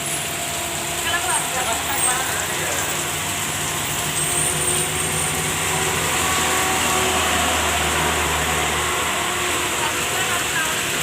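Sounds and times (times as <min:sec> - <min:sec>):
heavy rain hissing: 0:00.0 - 0:11.0
truck diesel engine droning: 0:00.0 - 0:11.0.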